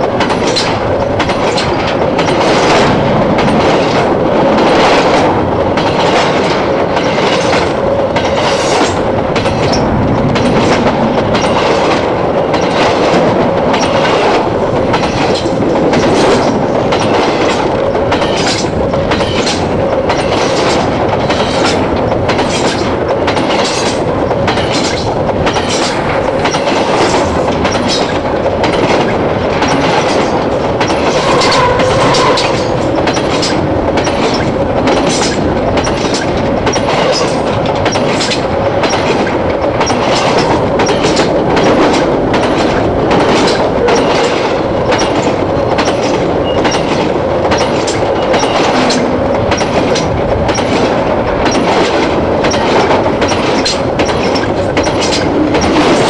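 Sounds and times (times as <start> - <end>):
steel wheels rumbling on rail: 0.0 - 56.0
wheels clickety-clack: 0.0 - 56.0.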